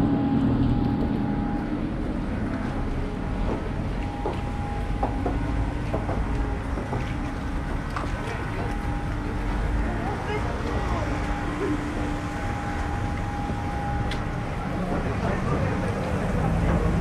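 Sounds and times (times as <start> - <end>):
engine hum: 0.0 - 17.0
traffic on wet road: 0.4 - 17.0.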